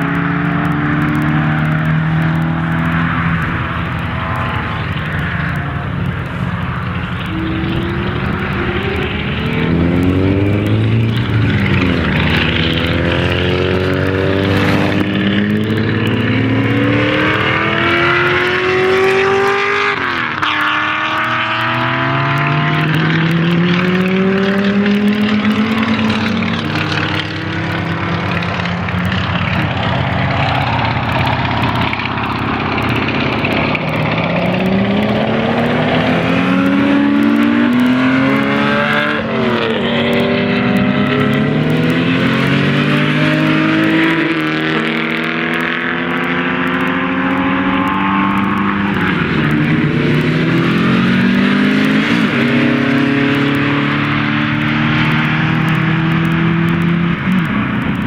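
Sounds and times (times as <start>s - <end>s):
racing car engines accelerating: 0.0s - 58.0s.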